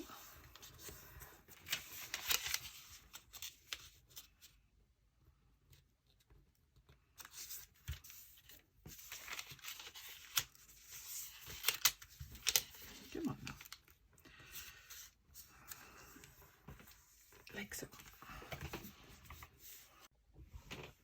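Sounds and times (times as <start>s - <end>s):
paper rustling and crackling: 0.0s - 4.6s, 5.8s - 20.1s.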